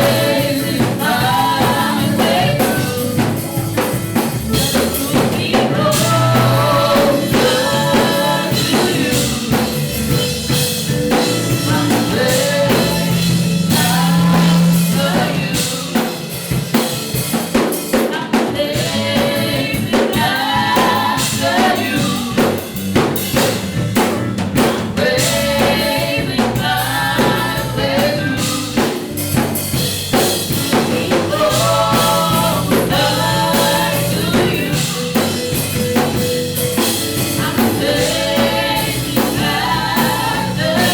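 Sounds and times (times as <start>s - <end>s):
band with drums and bass: 0.0s - 40.9s
voices singing worship song: 0.0s - 40.9s.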